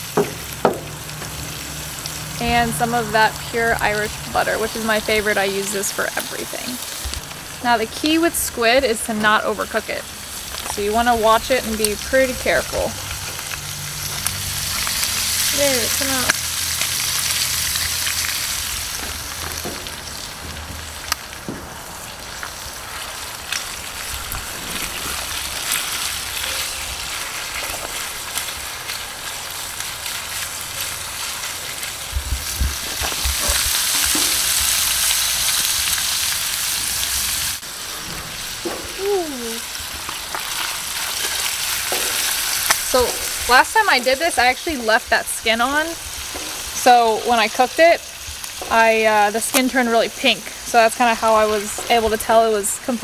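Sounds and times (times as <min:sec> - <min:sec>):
squid sizzling in oil: 0:00.0 - 0:53.0.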